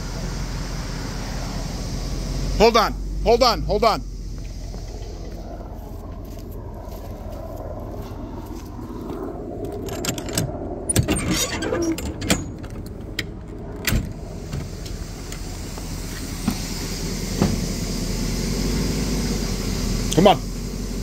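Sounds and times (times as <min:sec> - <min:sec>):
car engine rumbling at low speed: 0:00.0 - 0:21.0.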